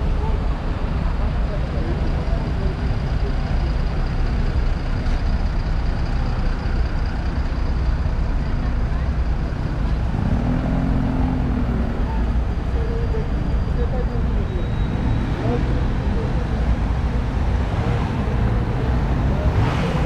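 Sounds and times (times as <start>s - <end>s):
passing traffic rumble: 0.0s - 20.0s.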